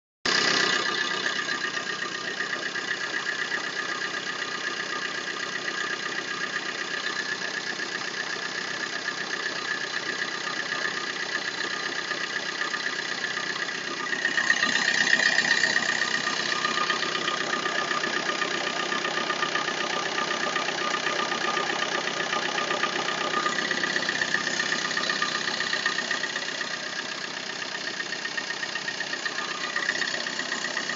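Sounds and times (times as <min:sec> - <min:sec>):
diesel engine idling: 0:00.3 - 0:30.9.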